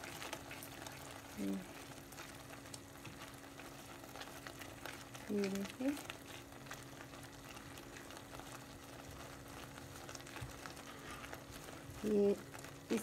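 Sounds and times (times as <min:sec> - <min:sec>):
spatula stirring: 0:00.0 - 0:13.0
steady low hum: 0:00.0 - 0:13.0
syrup bubbles crackling: 0:00.0 - 0:13.0.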